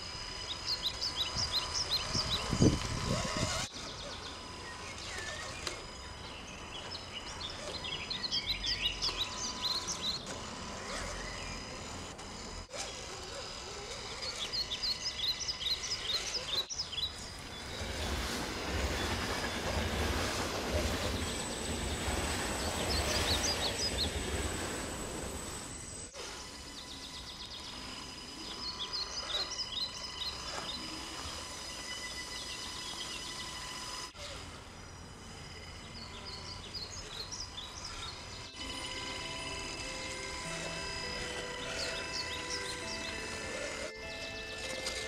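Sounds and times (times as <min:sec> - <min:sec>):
small birds chirping: 0:00.0 - 0:45.0
steady background noise: 0:00.0 - 0:45.0.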